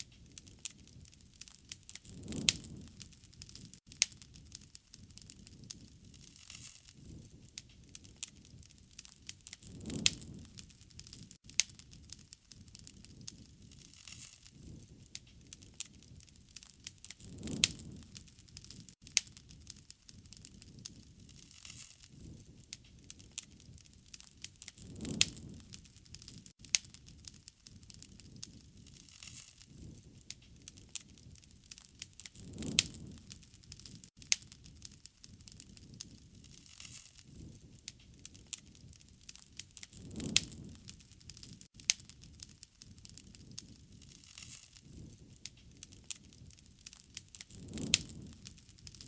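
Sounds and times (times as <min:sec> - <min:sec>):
sharp pops and snaps: 0:00.0 - 0:07.0, 0:07.6 - 0:49.0
low rush of flame: 0:00.0 - 0:49.0
wood fire crackling: 0:00.0 - 0:49.0.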